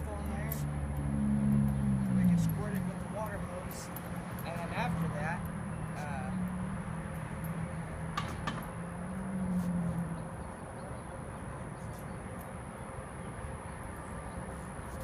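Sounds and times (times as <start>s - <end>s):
outdoor background noise: 0.0s - 15.0s
passing vehicle engine drone: 0.0s - 15.0s.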